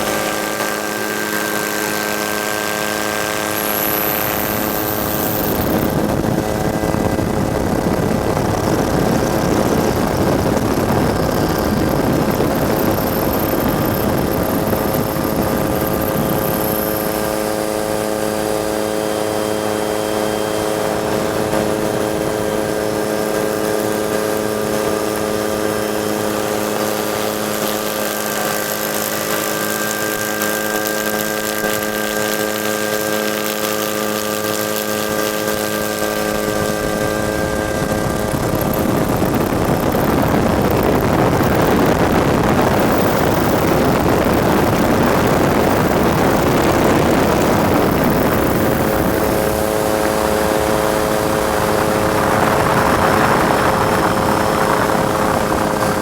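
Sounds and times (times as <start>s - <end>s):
helicopter droning: 0.0s - 56.0s.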